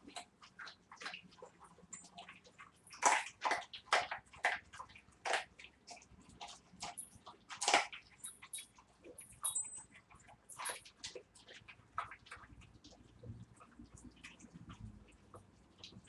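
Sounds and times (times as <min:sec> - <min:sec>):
dogs crunching bones: 0:00.0 - 0:14.8
dogs wet chewing: 0:00.0 - 0:16.0.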